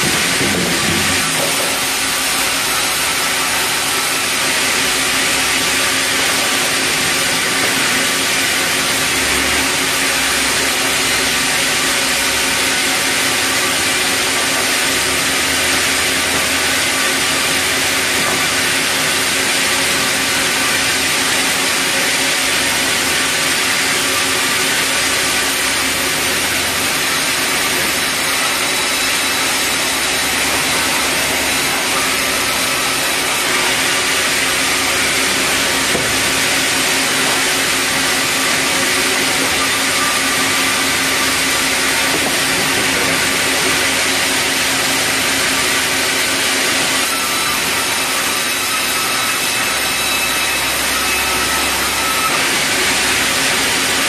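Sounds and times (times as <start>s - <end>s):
band saw cutting timber: 0.0s - 54.0s.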